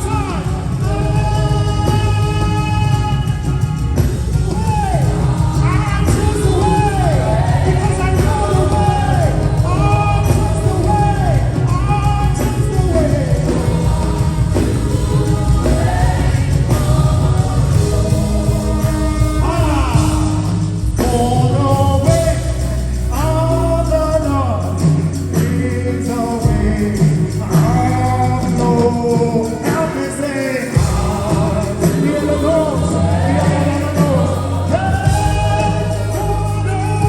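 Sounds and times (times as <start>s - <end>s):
band with bass and keyboard: 0.0s - 37.0s.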